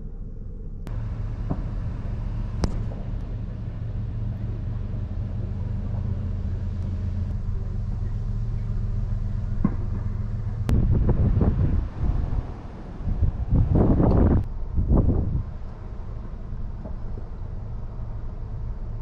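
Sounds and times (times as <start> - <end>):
car engine idling: 0.4 - 19.0.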